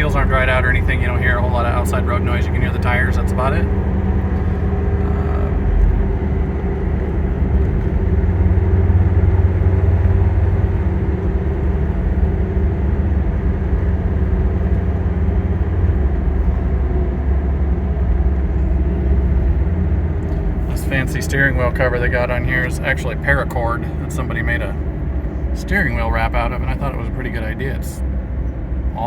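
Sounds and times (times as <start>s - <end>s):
diesel engine droning in cab: 0.0s - 29.0s
tire road noise: 0.0s - 29.0s.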